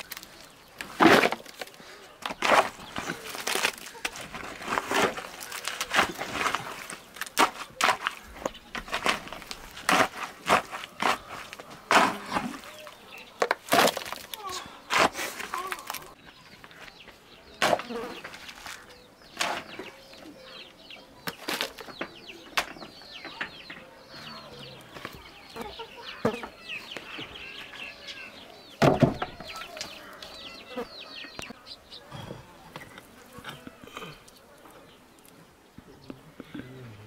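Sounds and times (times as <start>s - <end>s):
birds chirping falling peeps: 0.0s - 36.7s.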